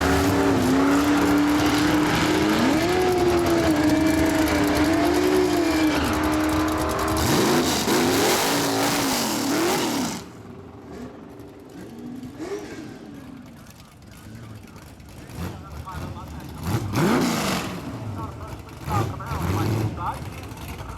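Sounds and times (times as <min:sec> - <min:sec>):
drag car engine revving: 0:00.0 - 0:20.9.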